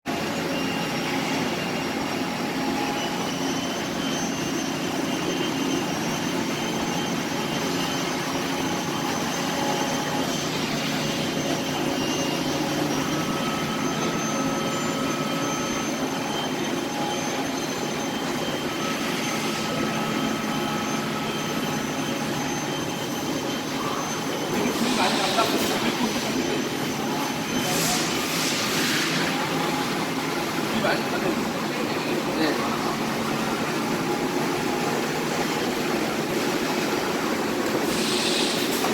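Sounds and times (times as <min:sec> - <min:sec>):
floor scrubber motor whine: 0:00.1 - 0:38.9.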